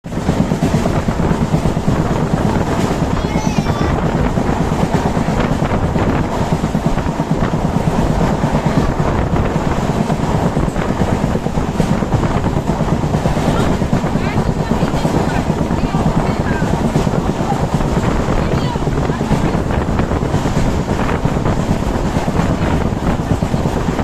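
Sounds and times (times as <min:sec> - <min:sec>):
train wheels rumbling on rail: 0:00.0 - 0:24.0
wind noise on microphone: 0:00.0 - 0:24.0.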